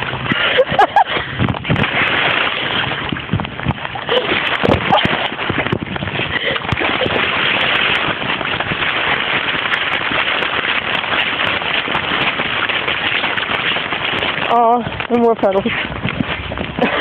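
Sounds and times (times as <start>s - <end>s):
rain patter: 0.0s - 17.0s.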